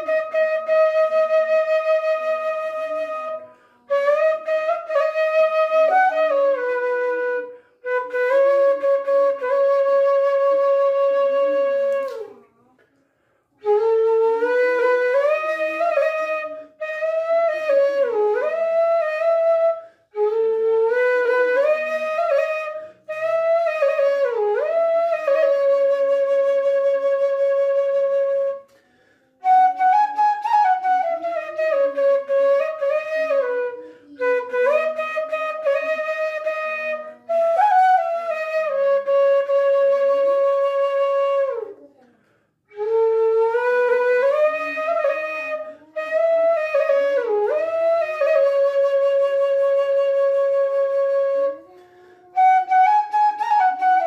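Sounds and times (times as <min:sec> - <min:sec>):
bamboo flute melody: 0:00.0 - 0:12.4, 0:13.6 - 0:42.0, 0:42.7 - 0:54.0.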